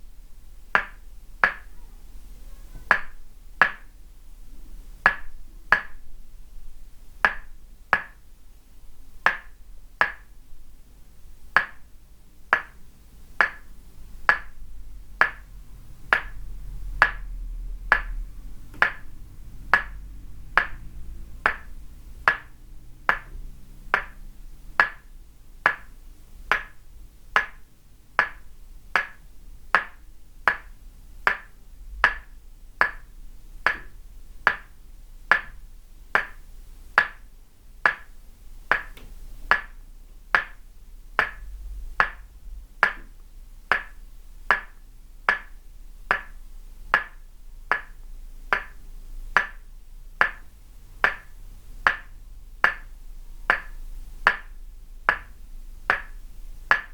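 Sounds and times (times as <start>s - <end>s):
wooden mallet tapping wooden peg: 0.7s - 1.8s, 2.9s - 4.0s, 5.0s - 6.2s, 7.2s - 8.2s, 9.2s - 10.4s, 11.6s - 11.9s, 12.5s - 12.8s, 13.4s - 26.8s, 27.4s - 56.9s.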